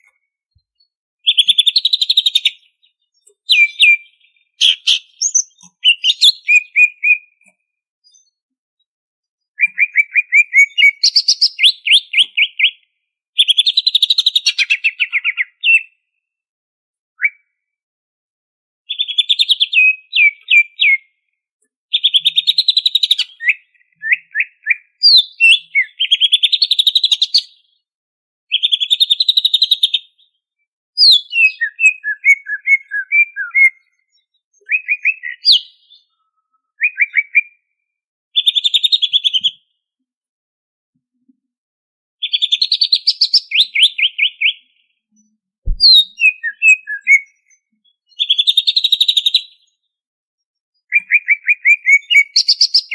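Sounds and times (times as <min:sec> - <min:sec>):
bird singing trilled phrases: 0:00.0 - 0:08.5, 0:09.4 - 0:16.0, 0:17.2 - 0:17.6, 0:18.9 - 0:21.2, 0:21.9 - 0:27.7, 0:28.5 - 0:30.4, 0:31.0 - 0:37.7, 0:38.4 - 0:39.7, 0:42.2 - 0:50.0, 0:50.7 - 0:52.9.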